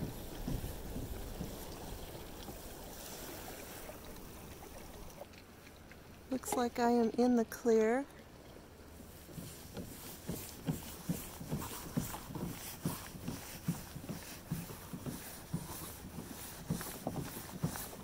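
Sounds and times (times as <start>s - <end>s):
water knocking against kayak hull: 0.0s - 5.3s, 6.1s - 7.5s, 9.1s - 18.0s.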